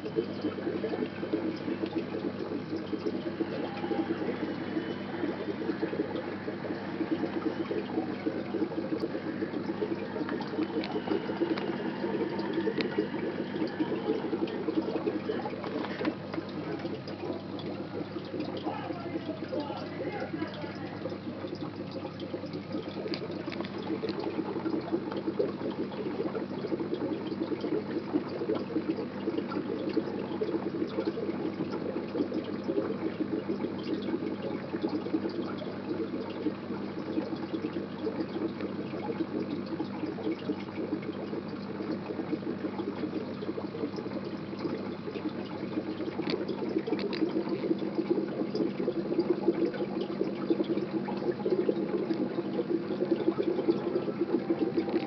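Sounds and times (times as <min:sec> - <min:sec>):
aquarium water bubbling: 0:00.0 - 0:55.0
low steady hum: 0:00.0 - 0:55.0.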